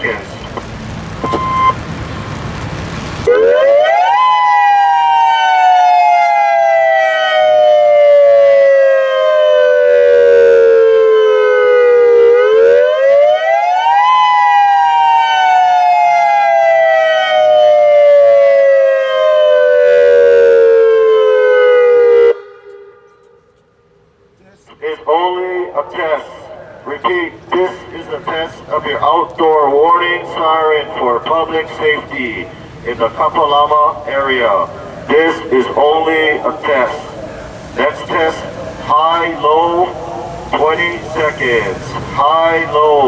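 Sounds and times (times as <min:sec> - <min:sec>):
warning siren wail: 0:03.2 - 0:23.6, 0:25.1 - 0:43.0.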